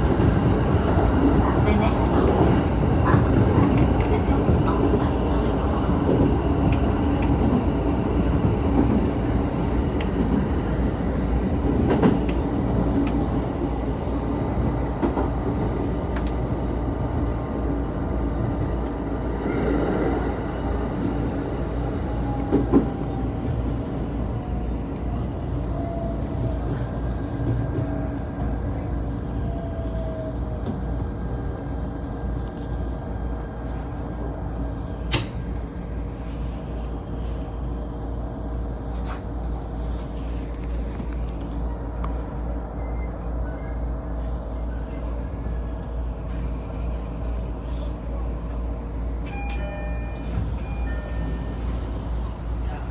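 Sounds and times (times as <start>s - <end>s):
electric train rumbling: 0.0s - 52.9s.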